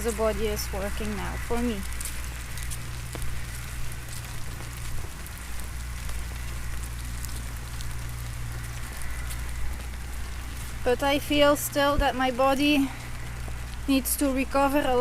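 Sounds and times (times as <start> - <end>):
low steady rumble: 0.0 - 15.0
rain pattering: 0.0 - 15.0
sharp raindrop ticks: 0.0 - 15.0.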